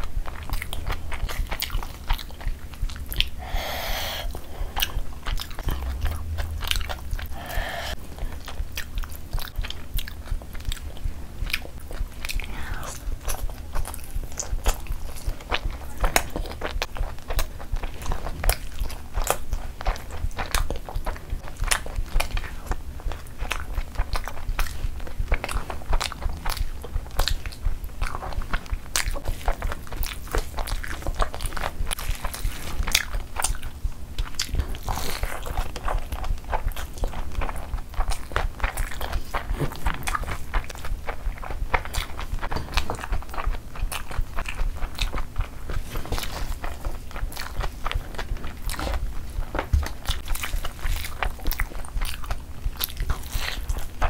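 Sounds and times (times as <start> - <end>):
close chewing with wet smacks: 0.0 - 3.5, 4.1 - 54.0.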